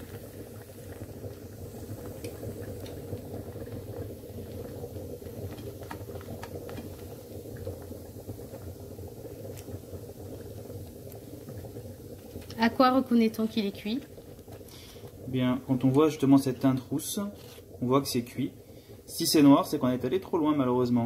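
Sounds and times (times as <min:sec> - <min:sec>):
flatbread sizzling in hot oil: 0:00.0 - 0:21.0.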